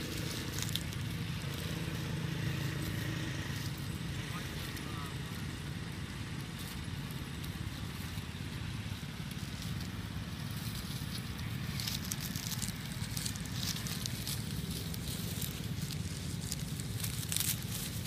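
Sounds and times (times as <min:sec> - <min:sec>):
dry leaves crackling and rustling: 0:00.0 - 0:18.0
low rumble: 0:00.0 - 0:18.0.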